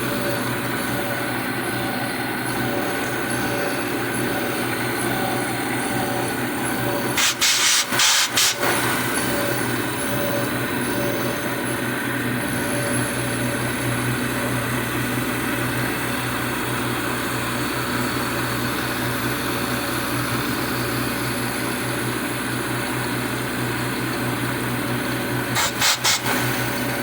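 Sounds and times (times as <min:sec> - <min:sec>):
milling machine humming: 0:00.0 - 0:27.0.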